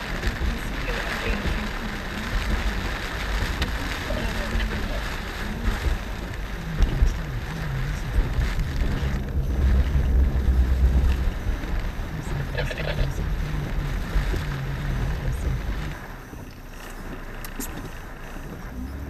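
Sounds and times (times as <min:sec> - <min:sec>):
rain and wind: 0:00.0 - 0:19.0
tyres hissing on wet road: 0:00.0 - 0:19.0.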